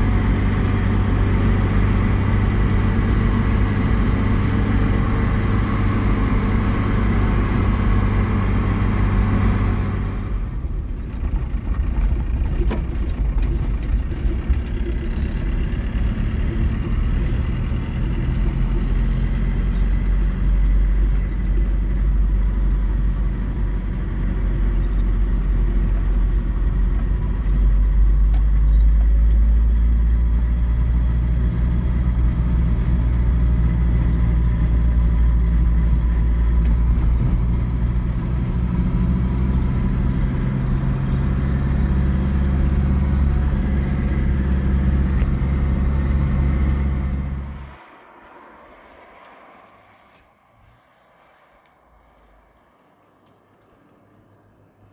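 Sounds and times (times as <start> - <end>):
vehicle engine rumbling: 0.0 - 54.9.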